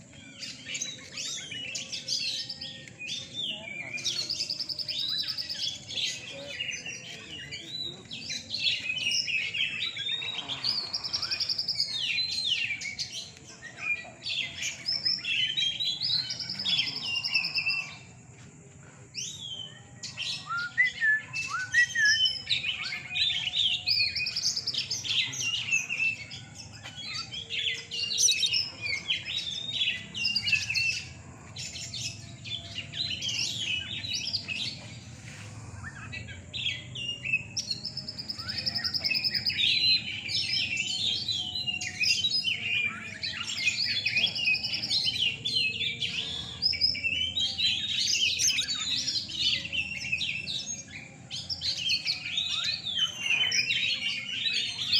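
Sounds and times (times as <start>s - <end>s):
birds singing whistled phrases: 0.0s - 54.9s.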